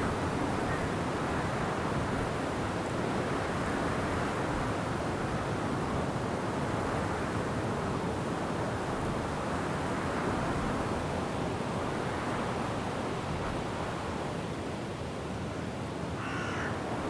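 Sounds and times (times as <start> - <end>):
wind through forest trees: 0.0 - 17.0.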